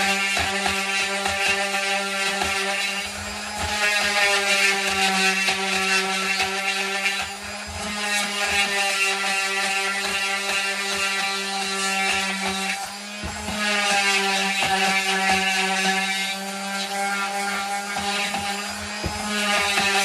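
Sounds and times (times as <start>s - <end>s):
electric sander on wood: 0.0s - 20.0s.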